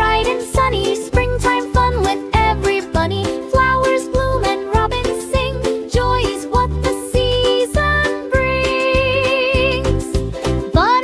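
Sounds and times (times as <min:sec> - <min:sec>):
upbeat children's song instrumental: 0:00.0 - 0:11.0.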